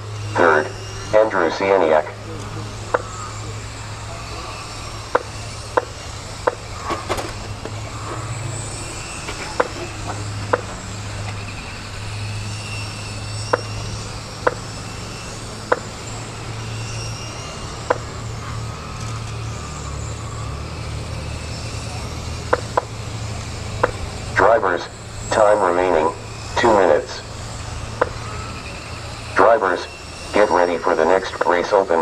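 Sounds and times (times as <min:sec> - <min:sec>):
rc car motors whining: 0:00.0 - 0:32.0
steady low hum: 0:00.0 - 0:32.0.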